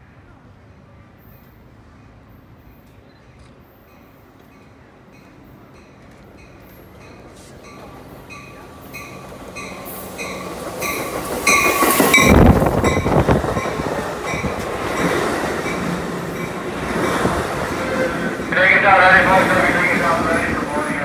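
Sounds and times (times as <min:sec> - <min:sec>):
train wheels rumbling on rails: 0:01.0 - 0:21.0.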